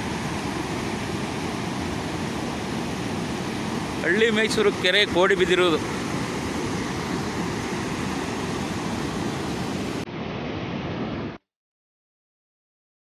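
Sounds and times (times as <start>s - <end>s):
water rushing over weir: 0.0s - 11.3s.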